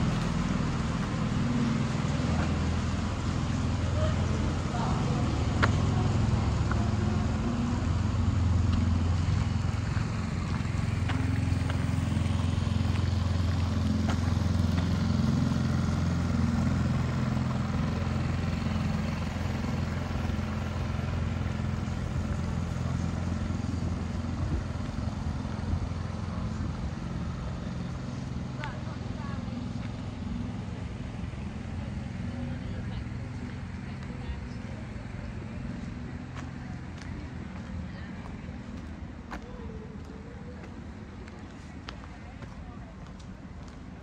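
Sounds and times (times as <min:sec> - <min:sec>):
vehicle engine running at low revs: 0:00.0 - 0:44.0.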